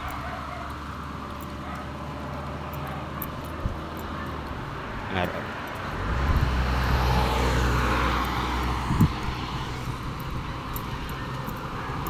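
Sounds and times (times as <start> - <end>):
vehicle passing on road: 0.0 - 12.0.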